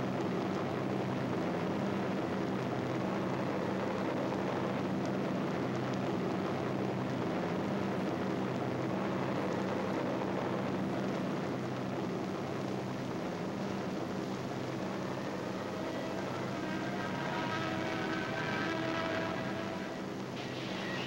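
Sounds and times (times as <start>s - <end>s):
old film soundtrack hiss: 0.0s - 21.0s
propeller aircraft engines droning: 0.1s - 21.0s.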